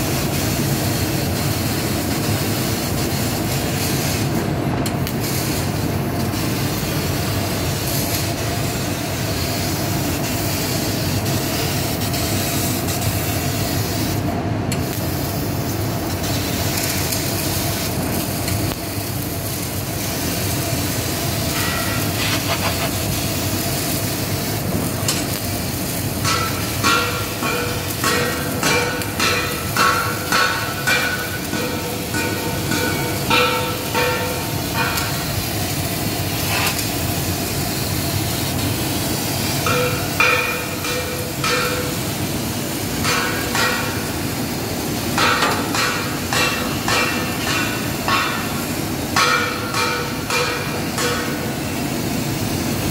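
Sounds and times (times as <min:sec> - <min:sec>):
laser cutter rushing hiss: 0:00.0 - 0:52.9.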